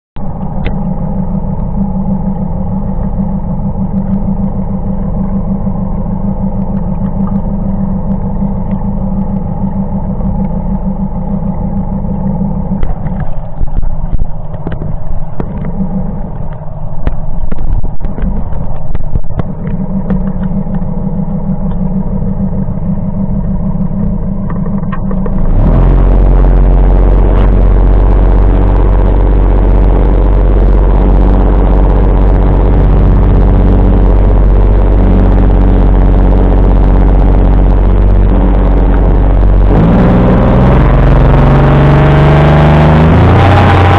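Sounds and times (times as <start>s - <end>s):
outboard motor running: 0.2s - 43.9s.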